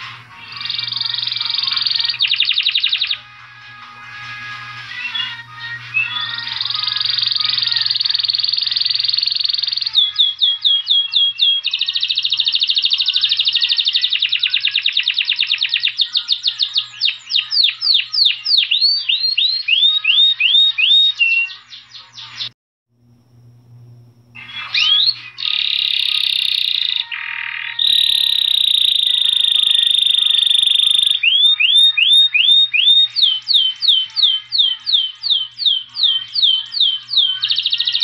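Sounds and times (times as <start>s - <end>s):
finch singing trills: 0.4s - 3.3s, 5.0s - 22.5s, 24.4s - 38.0s.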